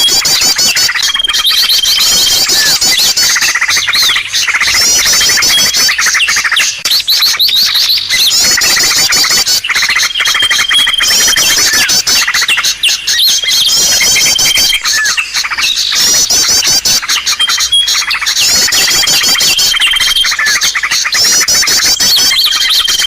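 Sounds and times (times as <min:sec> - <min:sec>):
small birds chattering: 0:00.0 - 0:23.0
swooping bird chirps: 0:00.0 - 0:23.0.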